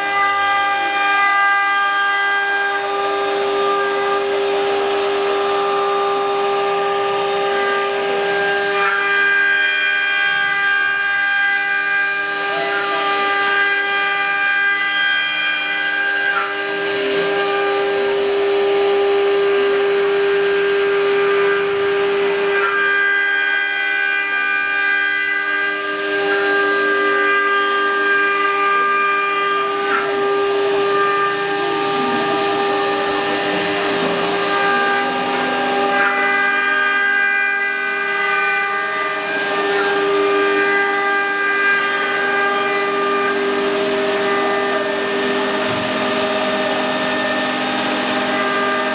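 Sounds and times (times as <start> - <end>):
wood router spindles whining: 0.0 - 48.9.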